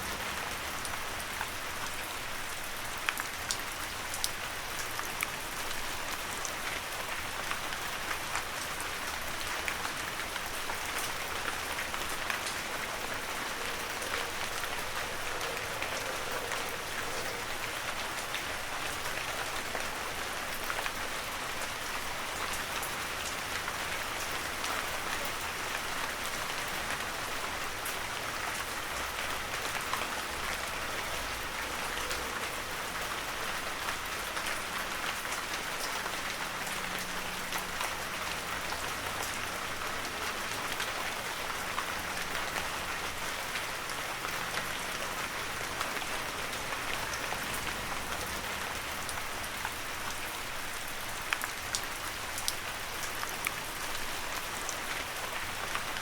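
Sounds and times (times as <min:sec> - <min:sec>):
raindrops ticking on surfaces: 0:00.0 - 0:56.0
heavy rain hiss: 0:09.0 - 0:56.0.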